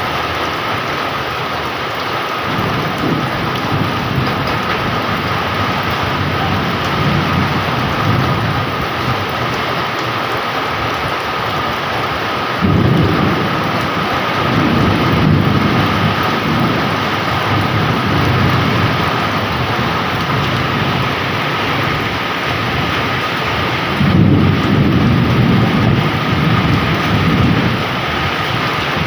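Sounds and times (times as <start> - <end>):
heavy rain pouring: 0.0 - 29.0
thunder rumbling: 0.0 - 29.0.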